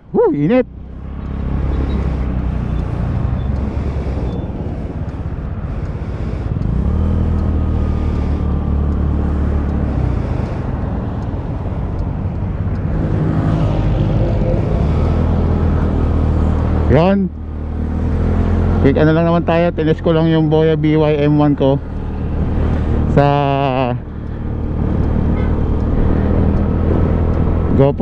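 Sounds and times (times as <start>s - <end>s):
road and traffic noise: 0.0s - 28.0s.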